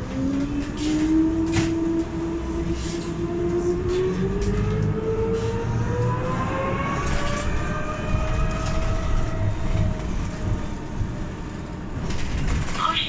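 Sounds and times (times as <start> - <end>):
low road rumble: 0.0 - 13.0.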